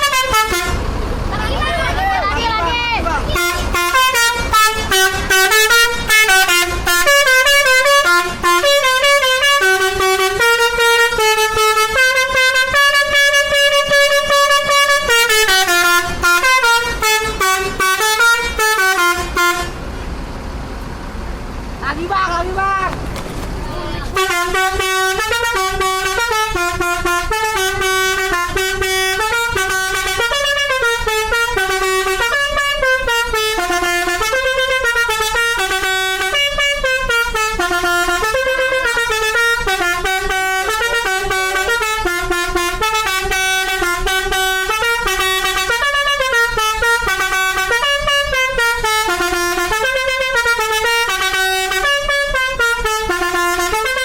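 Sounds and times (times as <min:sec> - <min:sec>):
multi-tone musical air horn: 0:00.0 - 0:00.8, 0:03.3 - 0:19.8, 0:24.1 - 0:54.0.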